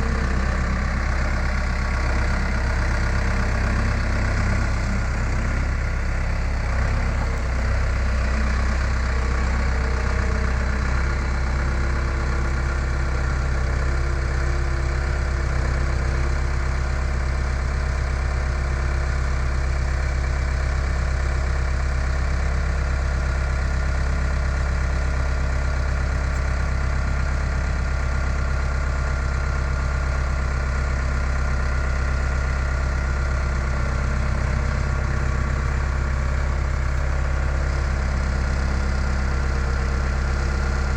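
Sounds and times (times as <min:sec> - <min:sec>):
skid steer engine idling: 0:00.0 - 0:40.9.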